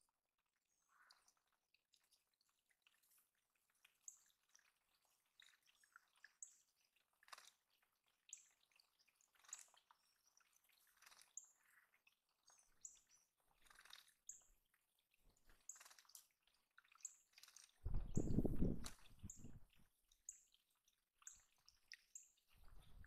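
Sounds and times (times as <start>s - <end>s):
water dripping in a puddle: 0.0s - 23.0s.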